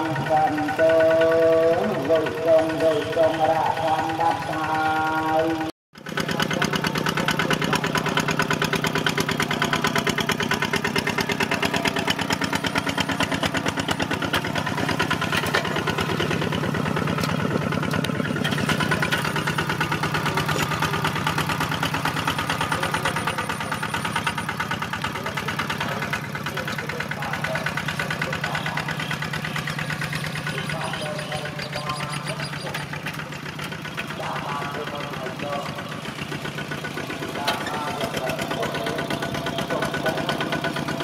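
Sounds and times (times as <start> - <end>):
diesel tractor engine running: 0.0 - 41.0.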